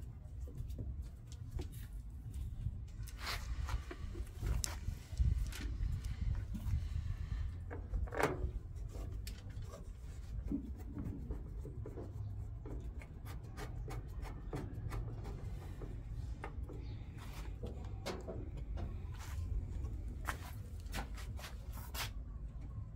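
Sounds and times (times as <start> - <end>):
low background rumble: 0.0 - 22.9.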